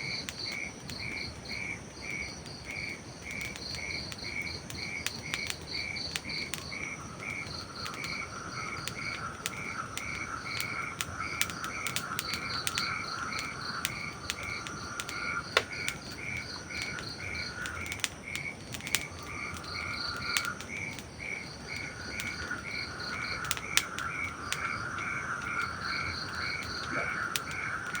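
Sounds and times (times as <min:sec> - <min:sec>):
campfire crackling: 0:00.0 - 0:28.0
frogs and insects calling: 0:00.1 - 0:28.0
rain hiss: 0:03.3 - 0:28.0.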